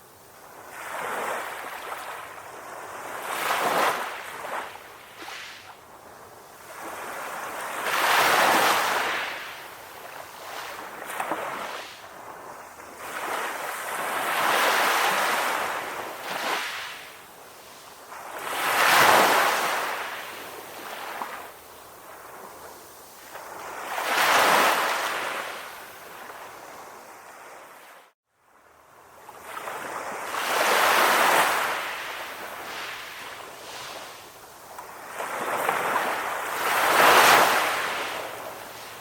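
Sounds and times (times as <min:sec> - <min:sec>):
calm ocean waves: 0:00.0 - 0:39.0.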